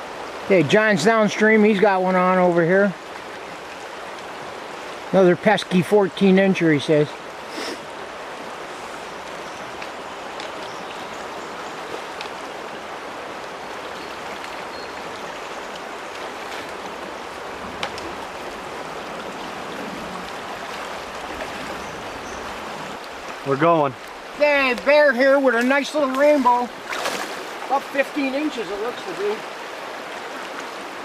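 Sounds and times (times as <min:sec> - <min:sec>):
stream flowing: 0:00.0 - 0:31.0.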